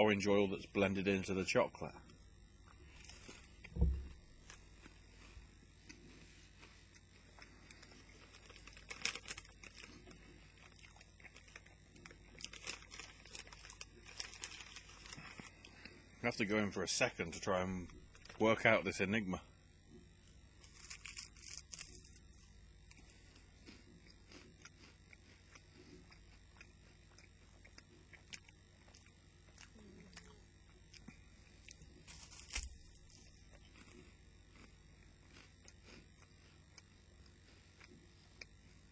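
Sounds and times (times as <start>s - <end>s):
crunching and chewing rice cake: 0.1s - 38.9s.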